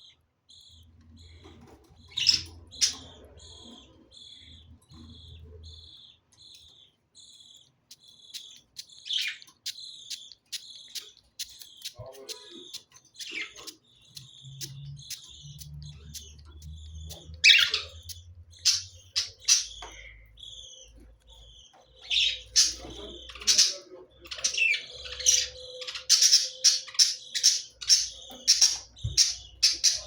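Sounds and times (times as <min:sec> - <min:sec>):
parrots chirping and squawking: 0:01.2 - 0:06.7, 0:07.3 - 0:30.0.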